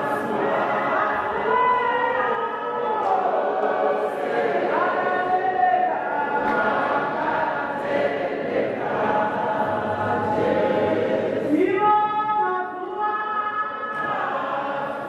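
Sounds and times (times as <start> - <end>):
congregation chanting: 0.0 - 15.0.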